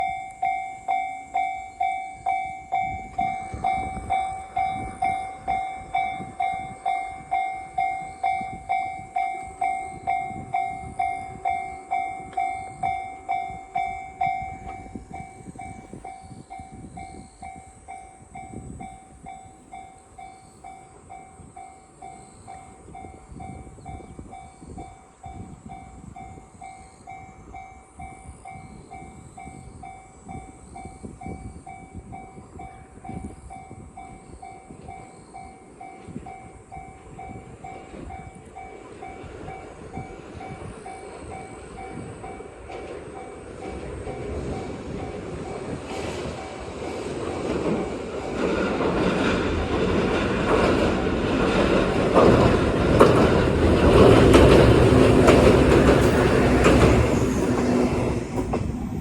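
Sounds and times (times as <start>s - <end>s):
level-crossing warning bell ringing: 0.0s - 59.0s
train rumbling past: 0.0s - 59.0s.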